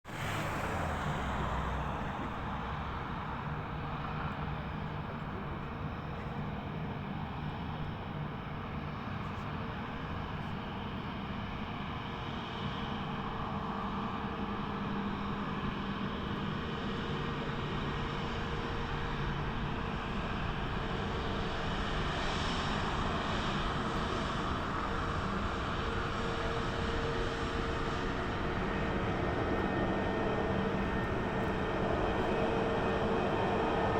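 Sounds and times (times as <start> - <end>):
jet engines running: 0.1 - 33.9.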